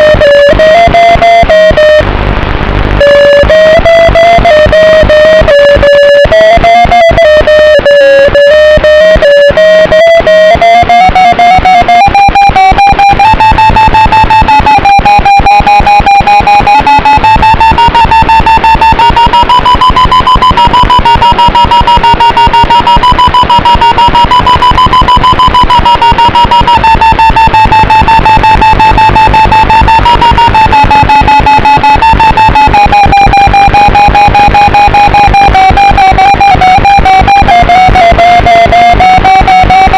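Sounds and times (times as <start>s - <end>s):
guitar-led music with fast beat: 0.0s - 39.9s
held high drifting tone: 0.0s - 39.9s.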